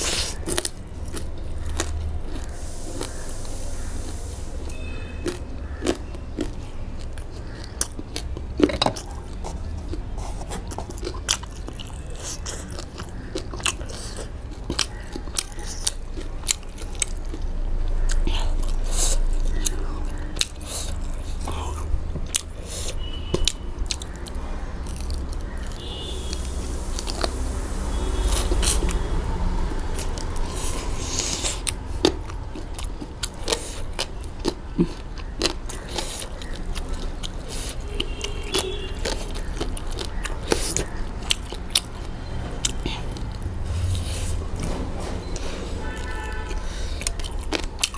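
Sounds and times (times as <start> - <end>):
chewing with mouth clicks: 0.0 - 47.9.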